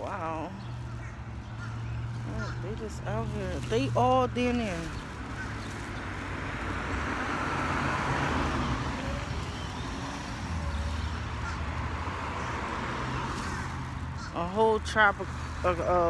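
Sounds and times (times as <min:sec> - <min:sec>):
low engine rumble: 0:00.0 - 0:16.0
vehicle passing: 0:00.0 - 0:16.0.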